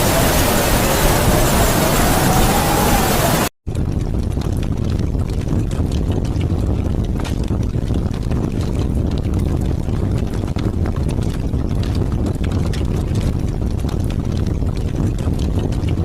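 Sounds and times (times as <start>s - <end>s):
deep wind rumble: 0.0s - 16.0s
raindrops spattering: 0.0s - 16.0s.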